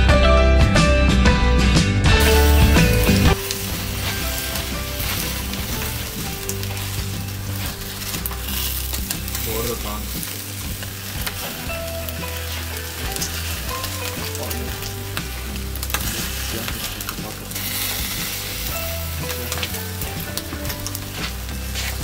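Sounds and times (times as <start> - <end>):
chicken wings sizzling on a grill: 2.2 - 22.0.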